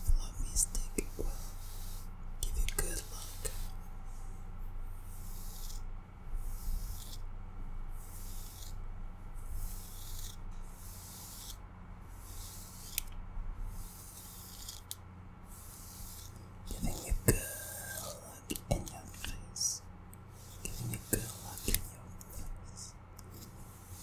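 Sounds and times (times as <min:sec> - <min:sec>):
nails scratching fluffy duster: 0:00.0 - 0:07.3, 0:07.9 - 0:24.0.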